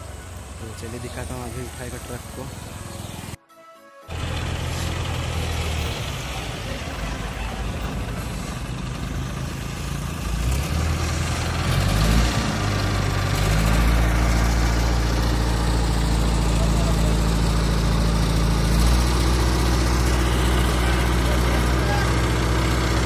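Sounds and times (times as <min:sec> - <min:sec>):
crane diesel engine running: 0:00.0 - 0:03.4, 0:04.1 - 0:23.0.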